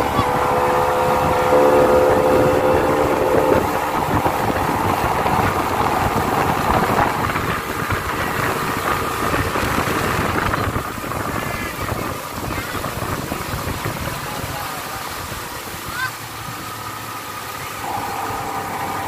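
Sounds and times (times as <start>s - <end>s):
boat engine running: 0.0s - 19.0s
water rushing and churning: 0.0s - 19.0s.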